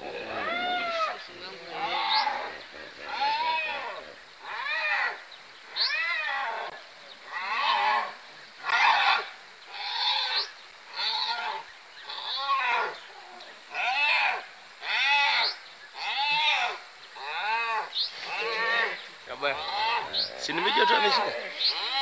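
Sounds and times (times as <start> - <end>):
hyena squealing in distress: 0.0 - 22.0.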